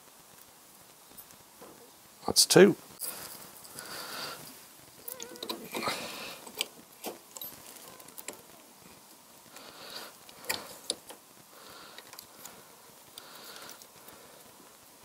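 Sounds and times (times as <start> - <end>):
soft rustling of handling: 2.6 - 15.0.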